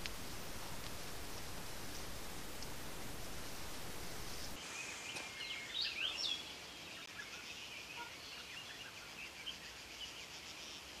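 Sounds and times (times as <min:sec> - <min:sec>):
soft outdoor hiss: 0:00.0 - 0:11.0.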